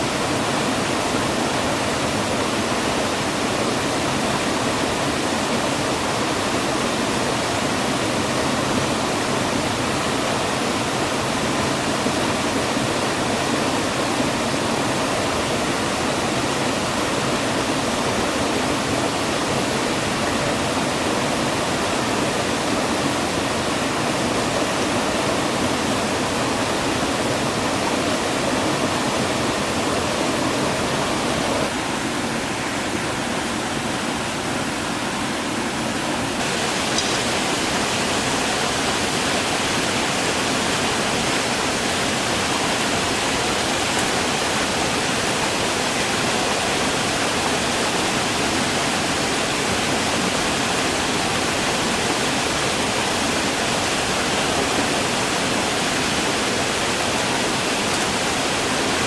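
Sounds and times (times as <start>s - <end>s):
rushing stream water: 0.0s - 59.0s.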